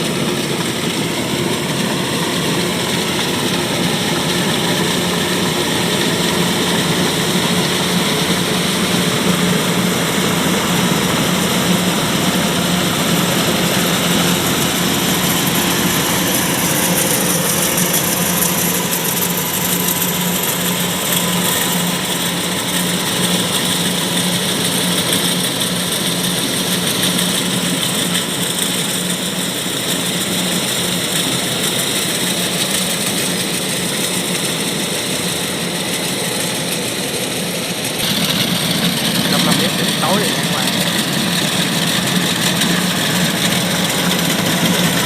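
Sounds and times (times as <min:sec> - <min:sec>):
diesel engine humming: 0:00.0 - 0:45.0.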